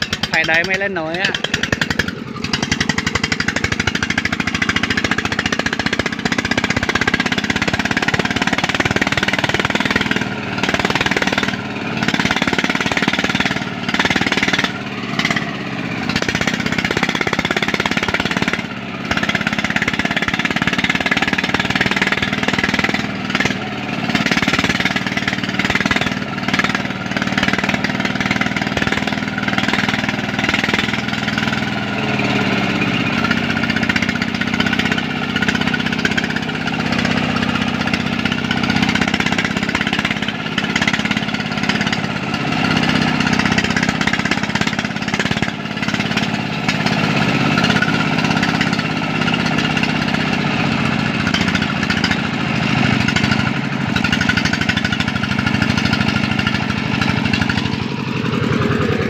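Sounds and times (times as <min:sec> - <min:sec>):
diesel engine knocking chug: 0:00.0 - 0:59.0.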